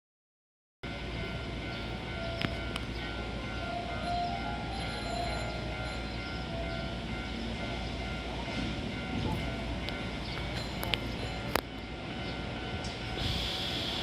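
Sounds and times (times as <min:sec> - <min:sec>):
electric train running: 0:00.9 - 0:14.0.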